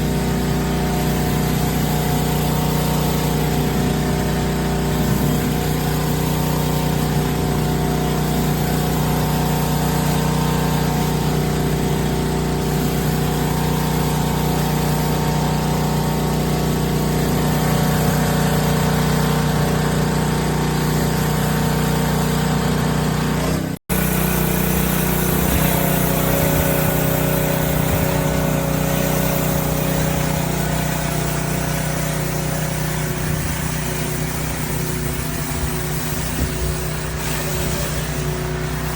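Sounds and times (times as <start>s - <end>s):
high-pressure water spraying: 0.0s - 38.9s
pressure washer motor hum: 0.0s - 38.9s.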